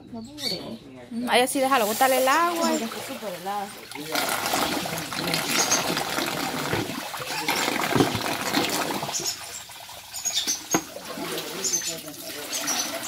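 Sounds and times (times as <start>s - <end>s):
water pouring and splashing: 1.3s - 13.0s
small splashes: 1.7s - 13.0s.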